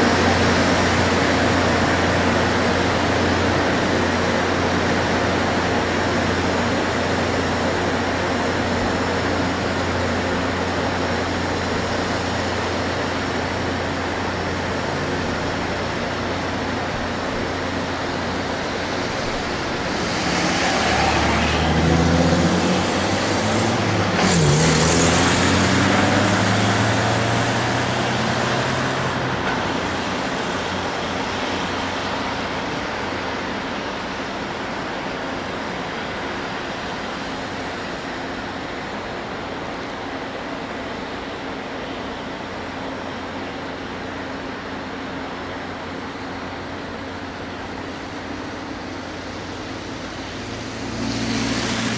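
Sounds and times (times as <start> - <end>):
diesel locomotive engines running: 0.0 - 51.9
locomotive engine passing by: 0.0 - 51.9.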